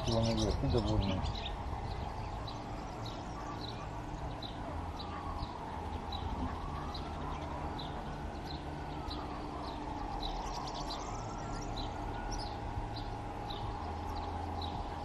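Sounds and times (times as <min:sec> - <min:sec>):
bird chirping: 0:00.0 - 0:15.0
distant low rumble: 0:00.0 - 0:15.0
rising and falling whine: 0:00.0 - 0:15.0.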